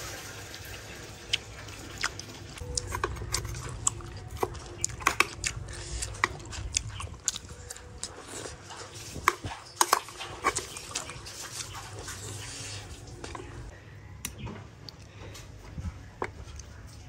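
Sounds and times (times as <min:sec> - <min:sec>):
chewing food: 0:01.3 - 0:17.0.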